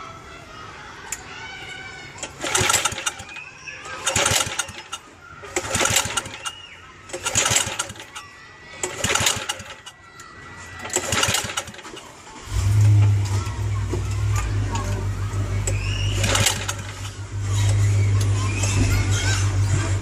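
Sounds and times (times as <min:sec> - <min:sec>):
small engine pull-start cranking: 0:02.2 - 0:10.0, 0:10.8 - 0:19.5.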